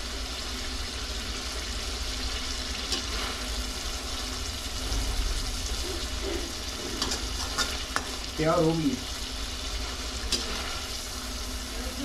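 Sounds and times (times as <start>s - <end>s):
liver sizzling in oil: 0.0s - 12.0s.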